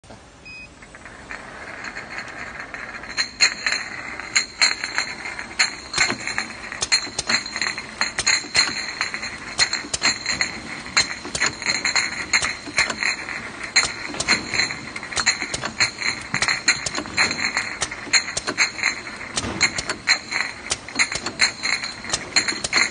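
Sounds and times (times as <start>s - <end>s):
glass bottles clinking together: 2.0s - 22.9s.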